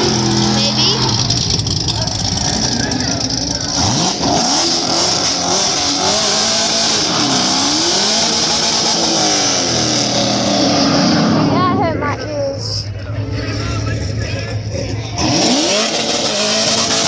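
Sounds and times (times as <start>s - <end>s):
engine revving high: 0.0s - 17.0s
tires squealing: 0.0s - 17.0s.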